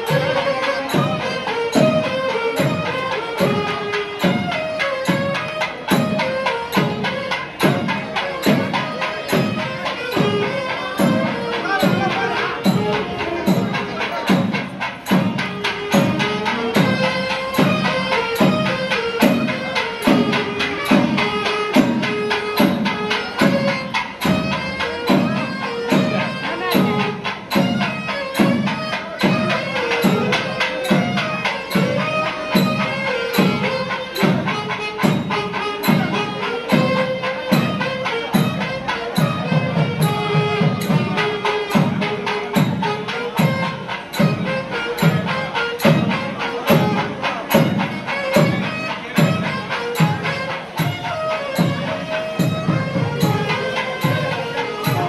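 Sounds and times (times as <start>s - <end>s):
reed pipe melody: 0.0s - 55.0s
steady drum beat: 0.0s - 55.0s.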